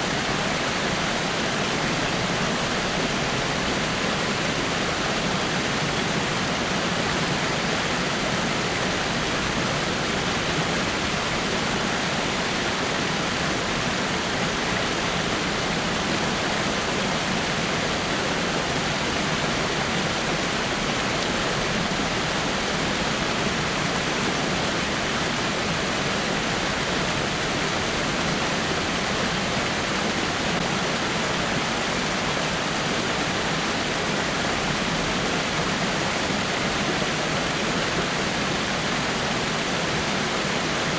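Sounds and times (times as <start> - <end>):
waterfall splashing over rocks: 0.0 - 40.9.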